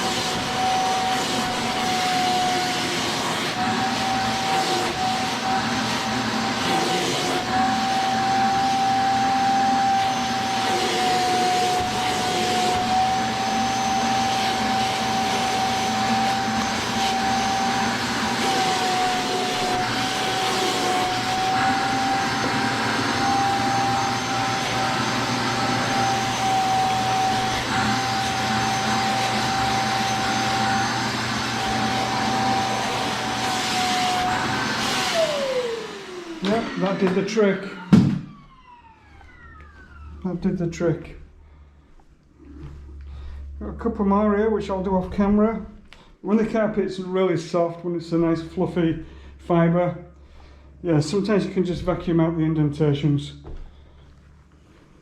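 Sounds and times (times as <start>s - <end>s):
vacuum cleaner high whine: 0.0s - 41.2s, 50.8s - 54.0s.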